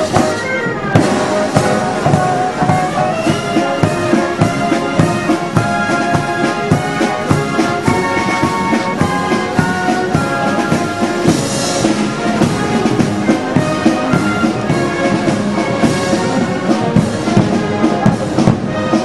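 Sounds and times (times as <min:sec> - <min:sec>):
brass band music with drums: 0:00.0 - 0:19.0.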